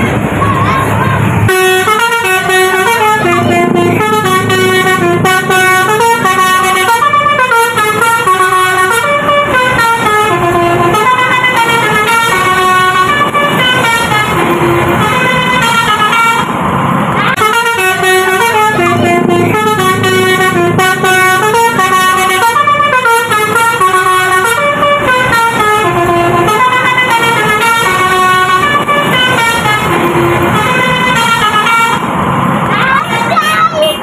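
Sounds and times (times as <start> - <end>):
multi-tone bus horn melody: 0.0 - 34.0.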